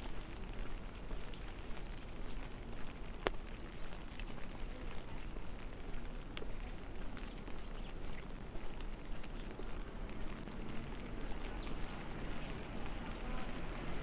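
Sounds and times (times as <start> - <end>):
rain hissing: 0.0 - 14.0
traffic on wet pavement: 0.0 - 14.0.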